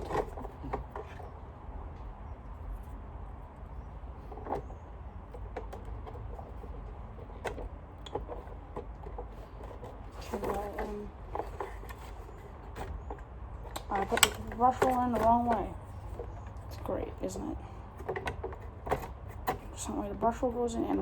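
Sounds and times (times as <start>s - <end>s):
clicks and knocks of vacuum parts: 0.0s - 1.4s, 4.2s - 16.9s, 17.6s - 21.0s
steady low hum: 0.0s - 21.0s.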